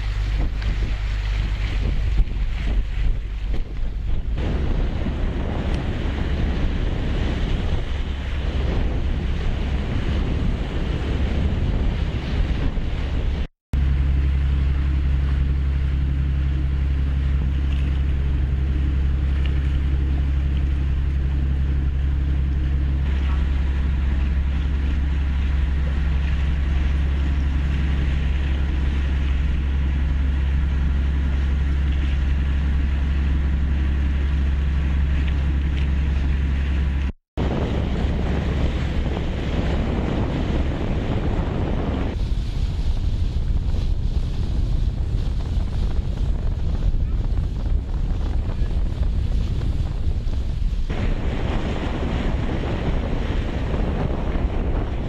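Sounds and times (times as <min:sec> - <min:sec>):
choppy sea water: 0:00.0 - 0:55.0
steady low drone: 0:00.0 - 0:55.0
wind buffeting microphone: 0:00.0 - 0:55.0.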